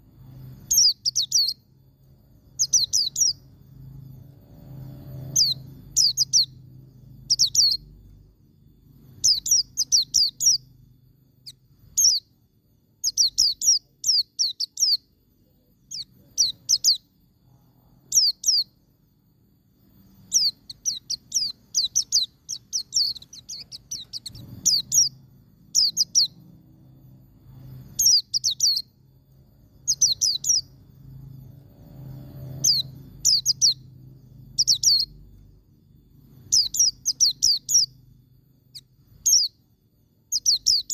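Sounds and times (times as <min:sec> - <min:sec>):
white-eye bird singing: 0:00.0 - 0:40.9.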